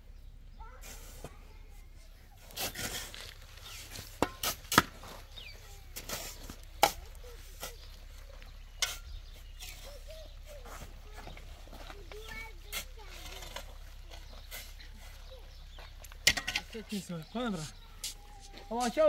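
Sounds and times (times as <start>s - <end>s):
shovels chopping and scraping earth: 2.4s - 8.1s, 8.7s - 19.0s.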